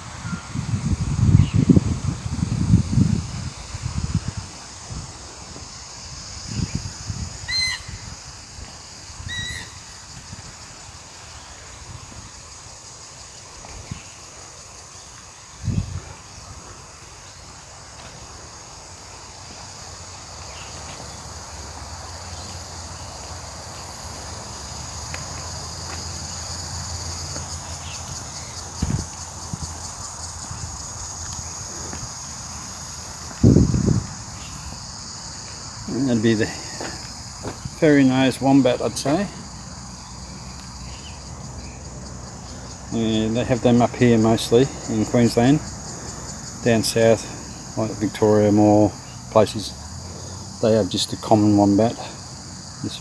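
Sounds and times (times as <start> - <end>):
insects chirring: 0.0 - 53.0.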